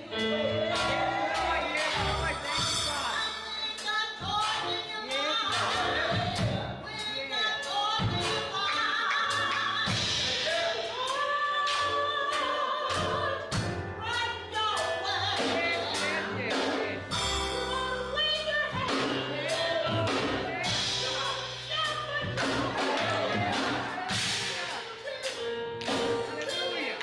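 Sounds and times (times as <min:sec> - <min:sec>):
band with bass and drums: 0:00.0 - 0:12.2, 0:12.9 - 0:26.9
gospel singing: 0:00.0 - 0:27.0.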